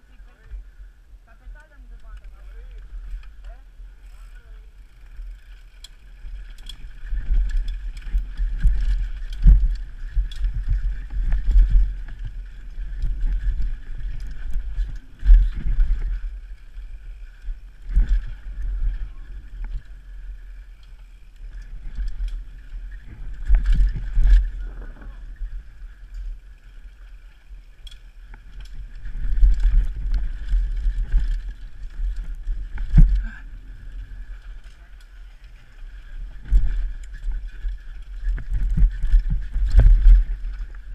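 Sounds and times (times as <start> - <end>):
bike rumbling on dirt trail: 0.0 - 40.9.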